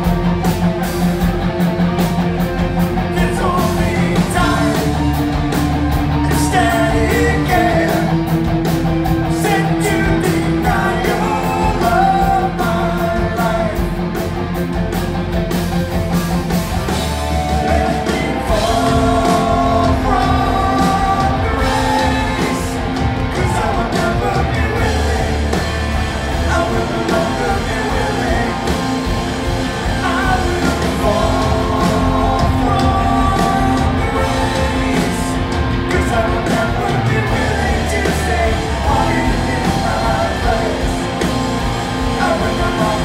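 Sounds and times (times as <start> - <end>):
bass guitar: 0.0 - 43.0
drums: 0.0 - 43.0
electric guitars: 0.0 - 43.0
person singing: 3.0 - 5.4, 6.1 - 8.3, 9.2 - 14.2, 17.3 - 29.2, 29.8 - 43.0.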